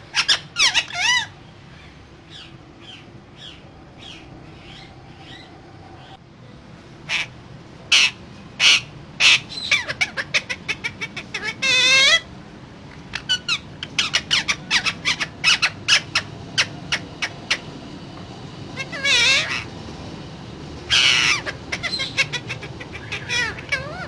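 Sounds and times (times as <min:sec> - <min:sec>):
parakeet calling: 0:00.0 - 0:06.2, 0:07.1 - 0:07.3, 0:07.9 - 0:12.3, 0:13.1 - 0:17.8, 0:18.7 - 0:19.8, 0:20.9 - 0:24.0.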